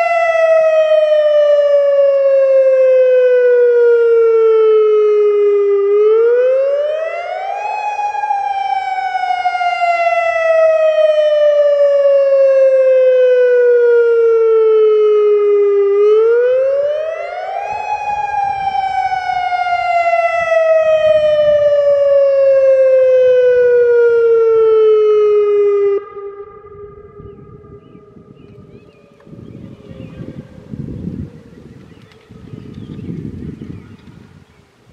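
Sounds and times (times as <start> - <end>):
warning siren wailing: 0.0 - 34.9.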